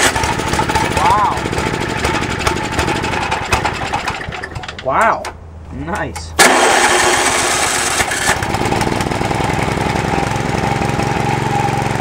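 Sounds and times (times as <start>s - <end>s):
small engine running: 0.0s - 4.8s, 6.4s - 12.0s.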